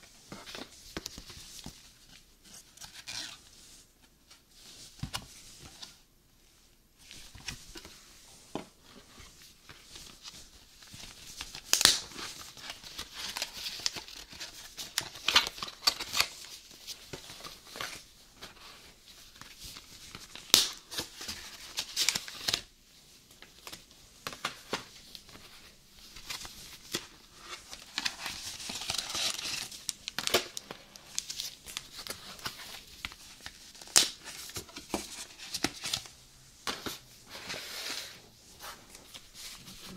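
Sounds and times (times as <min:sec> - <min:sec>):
cardboard and paper crinkling: 0:07.1 - 0:22.7, 0:23.4 - 0:39.9.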